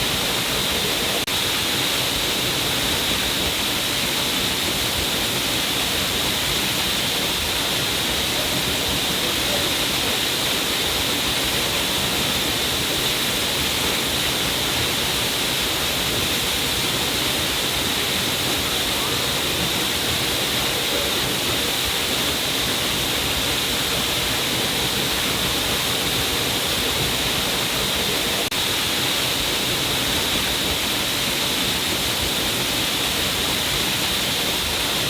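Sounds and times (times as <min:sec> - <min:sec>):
water falling down a cliff: 0:00.0 - 0:35.0.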